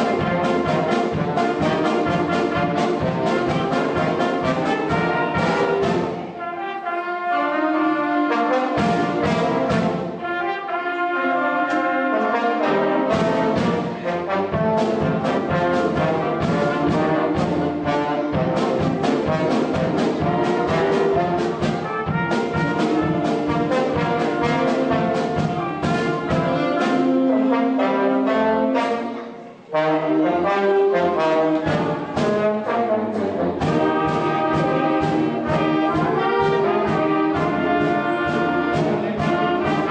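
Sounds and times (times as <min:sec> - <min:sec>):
steady drum beats: 0:00.0 - 0:06.6, 0:08.5 - 0:10.3, 0:11.6 - 0:27.6, 0:29.7 - 0:39.9
concert band with brass: 0:00.0 - 0:39.9.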